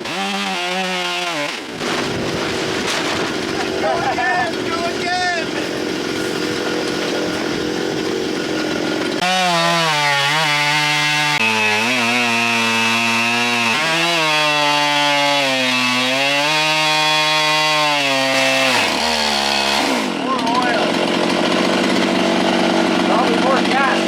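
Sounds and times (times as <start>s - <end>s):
chainsaw cutting through log: 0.0s - 24.0s.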